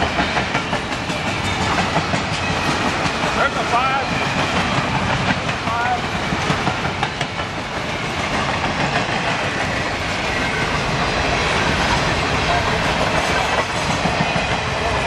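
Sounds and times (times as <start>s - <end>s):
freight cars rattling on rails: 0.0s - 15.0s.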